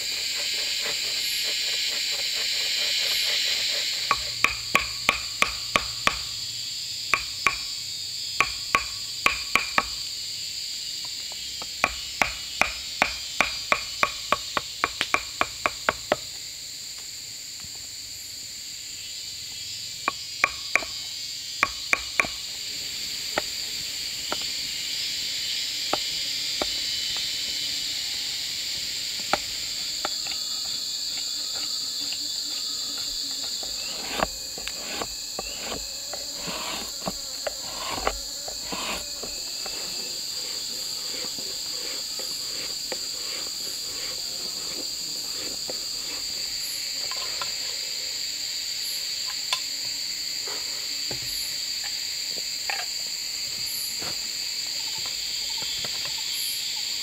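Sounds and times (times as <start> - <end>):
insect chorus droning: 0.0 - 57.0.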